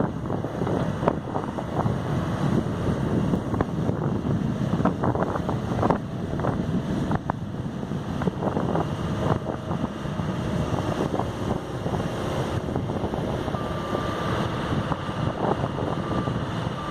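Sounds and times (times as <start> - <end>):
excavator engine rumble: 0.0 - 16.9
wind buffeting microphone: 0.0 - 16.9.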